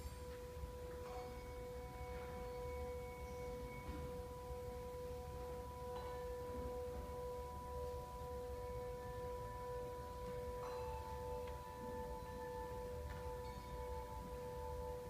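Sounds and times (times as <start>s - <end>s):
handbells ringing: 0.0s - 15.0s.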